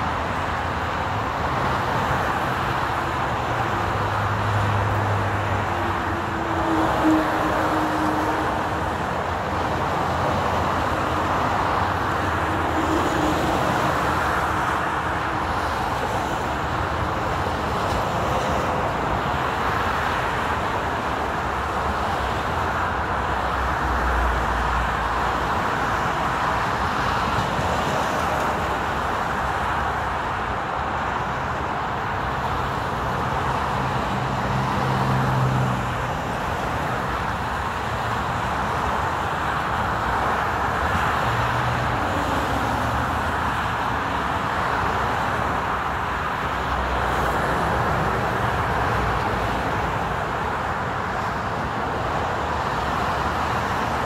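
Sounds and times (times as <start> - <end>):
tyre and road noise: 0.0 - 54.0.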